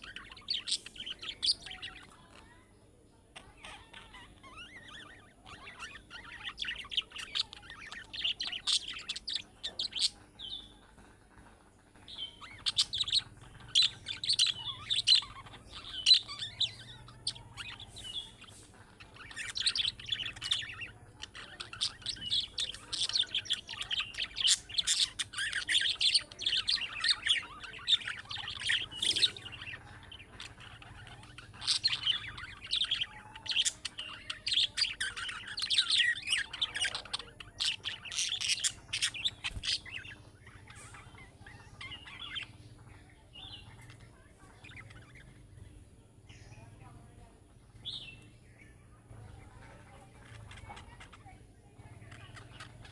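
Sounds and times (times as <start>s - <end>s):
budgerigars chattering and warbling: 0.0s - 52.9s.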